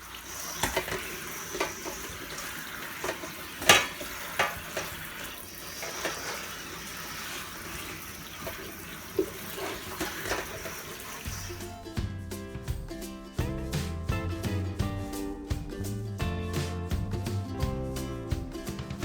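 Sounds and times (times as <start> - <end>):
tap running water: 0.0 - 19.0
knocks and clunks in sink: 0.6 - 5.2, 8.4 - 19.0.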